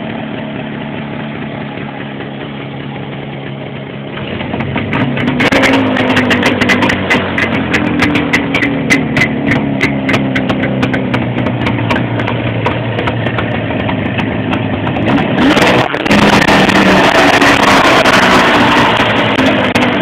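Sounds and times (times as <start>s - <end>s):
two-stroke engine idling and revving: 0.0s - 20.0s.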